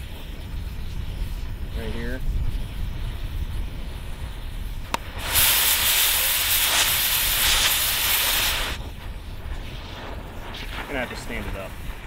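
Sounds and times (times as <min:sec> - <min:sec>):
cutting torch hissing: 0:00.0 - 0:12.0.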